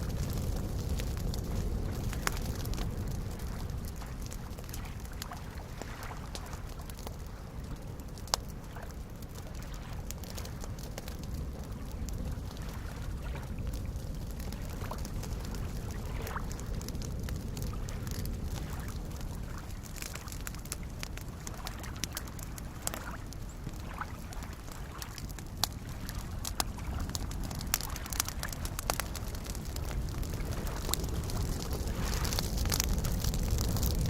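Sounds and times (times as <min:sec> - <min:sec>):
campfire crackling: 0:00.0 - 0:34.0
small waves lapping: 0:00.2 - 0:33.3.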